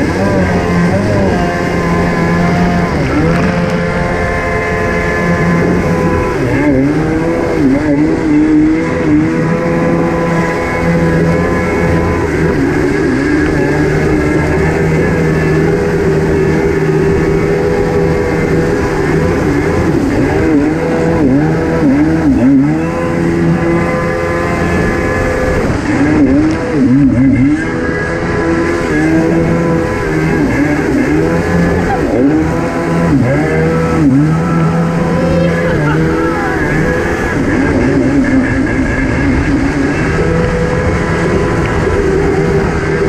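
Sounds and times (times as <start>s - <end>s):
jet ski engine running: 0.0s - 43.0s.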